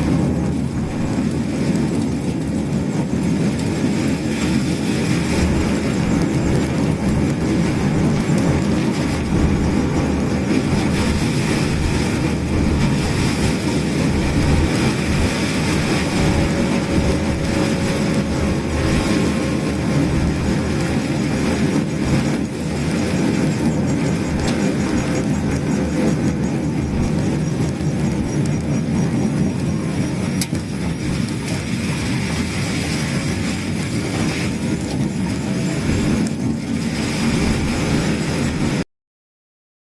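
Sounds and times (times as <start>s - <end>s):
small electric car driving: 0.0s - 37.5s.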